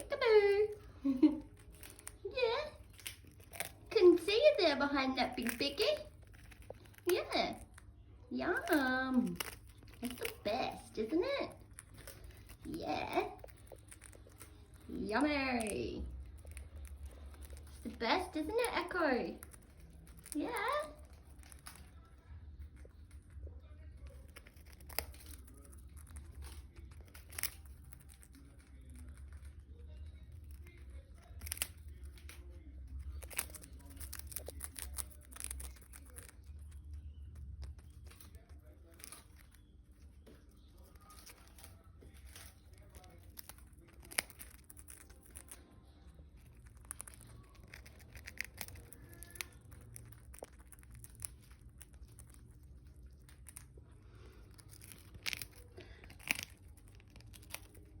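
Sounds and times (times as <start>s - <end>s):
parrot crunching cracker: 0.0s - 58.0s.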